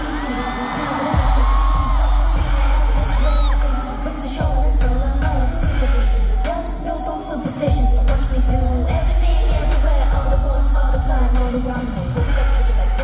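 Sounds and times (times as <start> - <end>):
live pop song over sound system: 0.0 - 13.0
sung vocals: 0.0 - 13.0
heavy bass beat: 0.9 - 13.0.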